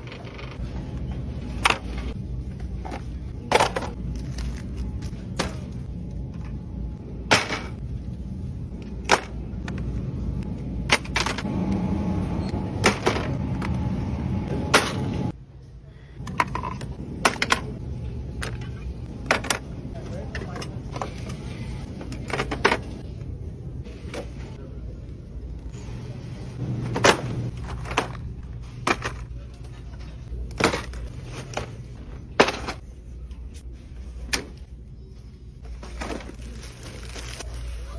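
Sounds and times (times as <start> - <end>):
low background hum: 0.0 - 37.9.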